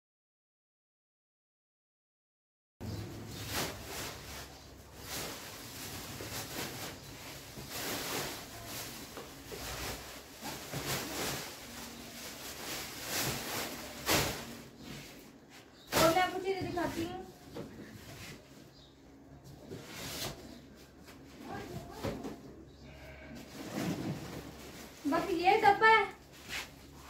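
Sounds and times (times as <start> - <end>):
objects rustling and knocking: 2.8 - 27.0.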